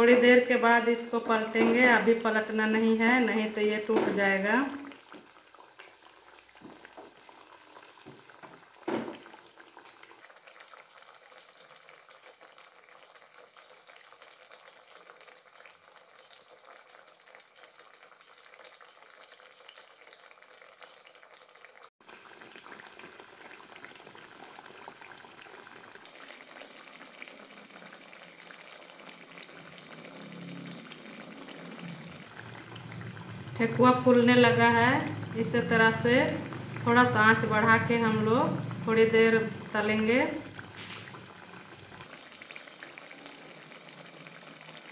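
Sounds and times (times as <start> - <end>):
deep-frying in hot oil: 0.0 - 44.9.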